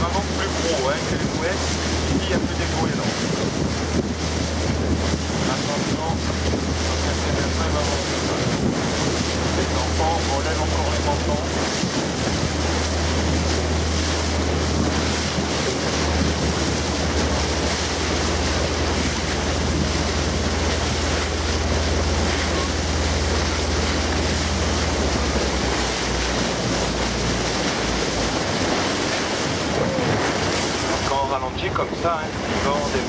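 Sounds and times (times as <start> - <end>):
boat engine drone: 0.0 - 33.0
sea water splashing: 0.0 - 33.0
wind buffeting microphone: 0.0 - 33.0.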